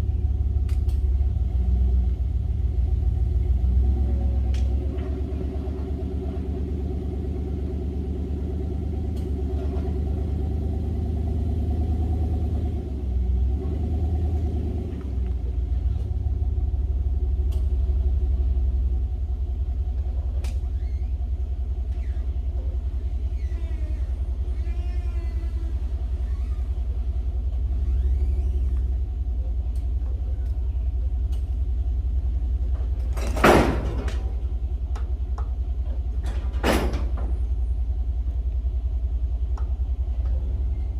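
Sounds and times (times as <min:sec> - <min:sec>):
engine running at low speed: 0:00.0 - 0:40.9.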